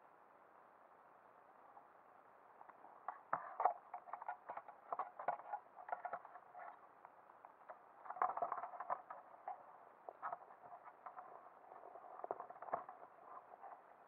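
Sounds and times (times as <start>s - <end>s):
muffled underwater clicks: 2.6s - 14.0s.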